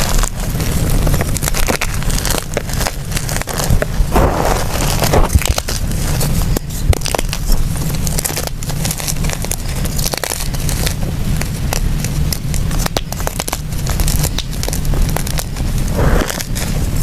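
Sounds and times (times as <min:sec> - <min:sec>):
chalk crunching by hand: 0:00.0 - 0:17.0
low rumble: 0:00.0 - 0:17.0.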